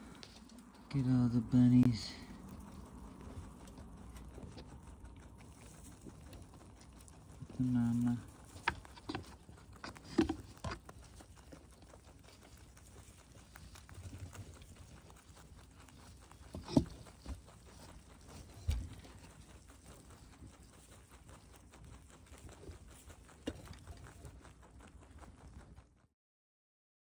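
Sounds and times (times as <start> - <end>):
rabbits nibbling grass: 0.0 - 26.1.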